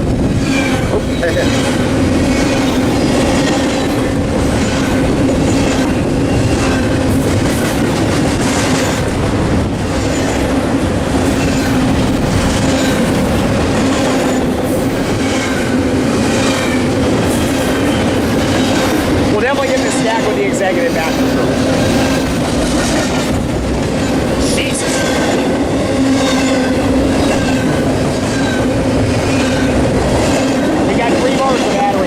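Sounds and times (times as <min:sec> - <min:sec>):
freight train rumbling past: 0:00.0 - 0:32.0
wheels clacking on rail joints: 0:00.0 - 0:32.0.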